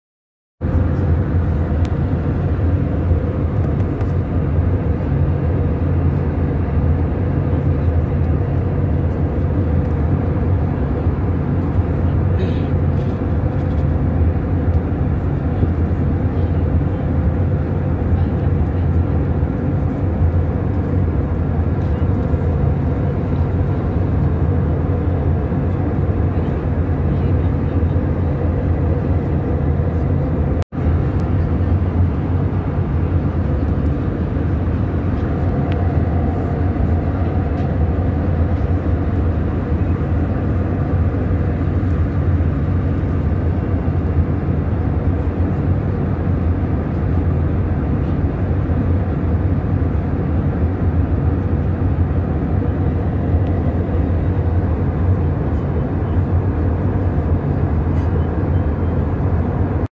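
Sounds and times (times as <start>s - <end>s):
airplane cabin engine rumble: 0.6s - 59.9s.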